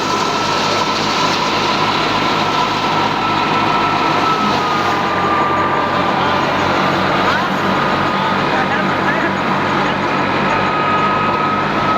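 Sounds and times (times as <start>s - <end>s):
high machine whine: 0.0s - 11.9s.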